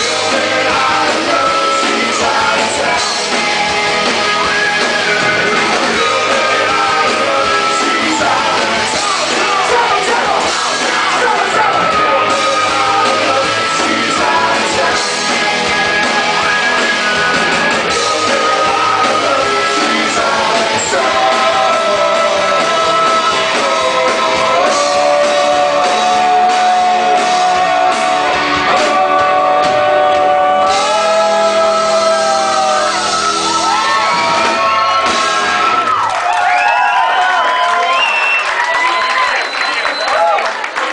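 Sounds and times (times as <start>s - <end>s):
person singing: 0.0s - 35.7s
live rock band playing: 0.0s - 36.0s.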